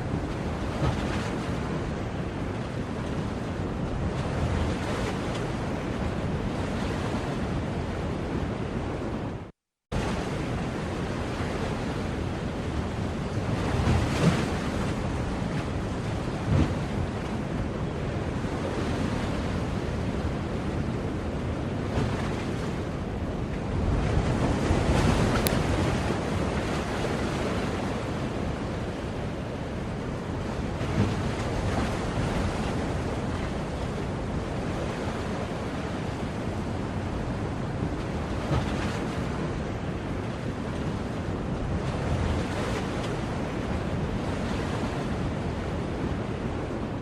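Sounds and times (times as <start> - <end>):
waves washing on shore: 0.0 - 47.0.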